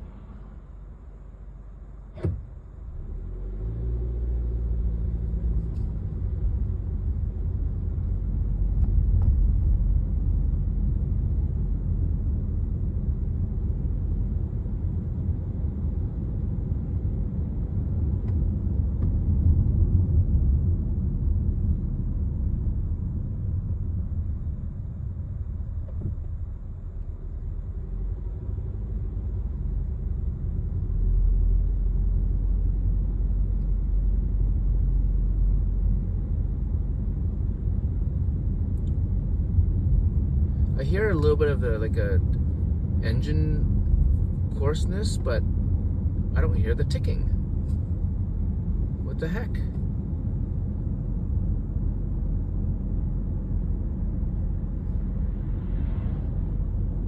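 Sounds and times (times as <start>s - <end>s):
car engine low rumble: 0.0s - 57.0s.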